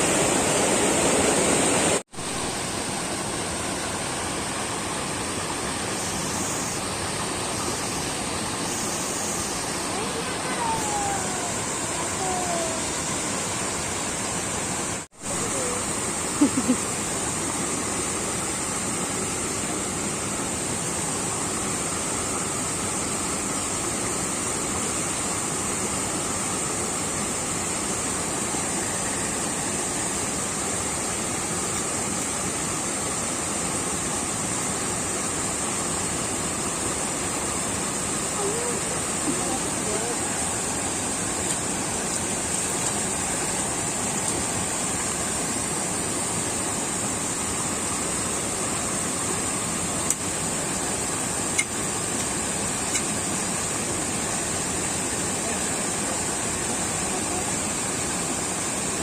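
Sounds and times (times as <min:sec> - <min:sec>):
flowing water rushing: 0:00.0 - 0:59.0
high hiss: 0:00.0 - 0:59.0.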